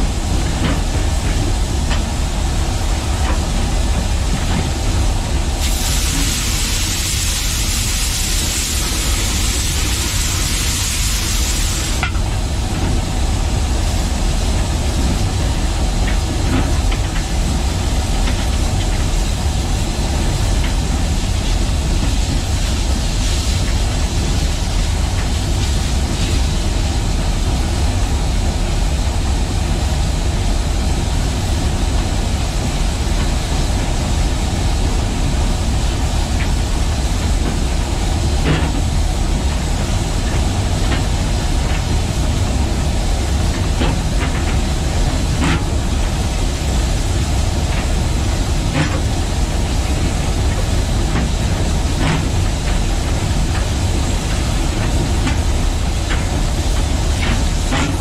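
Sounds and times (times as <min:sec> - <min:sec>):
steam locomotive rumble and hiss: 0:00.0 - 0:58.0.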